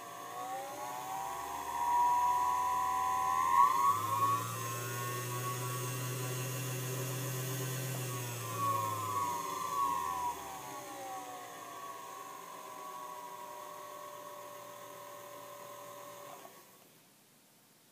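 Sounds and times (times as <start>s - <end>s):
sewing machine motor whirring: 0.0s - 16.7s.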